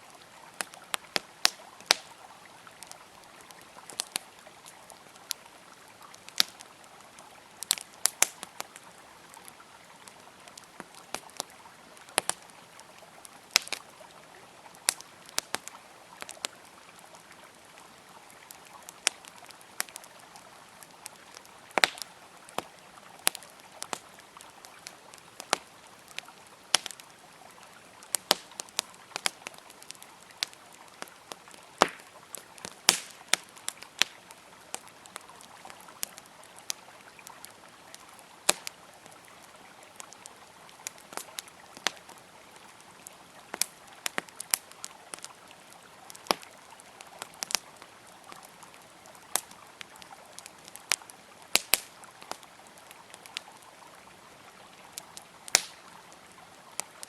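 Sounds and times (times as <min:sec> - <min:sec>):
campfire crackling: 0:00.0 - 0:57.0
river flowing: 0:00.0 - 0:57.0.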